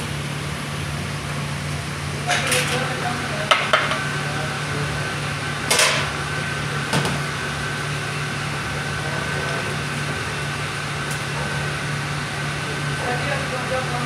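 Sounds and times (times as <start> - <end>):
kitchen machinery hum: 0.0 - 14.0.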